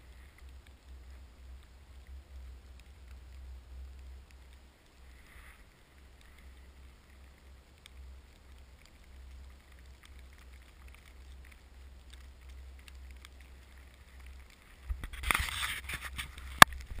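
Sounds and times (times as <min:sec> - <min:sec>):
low wind rumble on microphone: 0:00.0 - 0:17.0
snow ticking on camera housing: 0:00.0 - 0:17.0.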